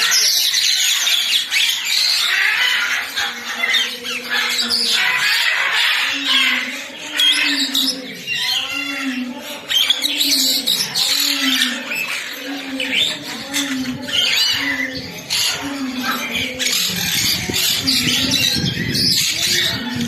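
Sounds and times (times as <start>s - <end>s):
birds squawking and chirping: 0.0s - 20.0s.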